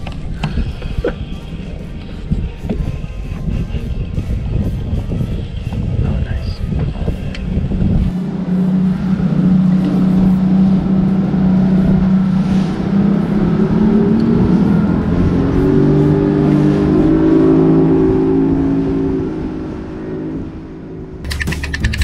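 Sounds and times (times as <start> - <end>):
outboard engine running: 0.0 - 22.0.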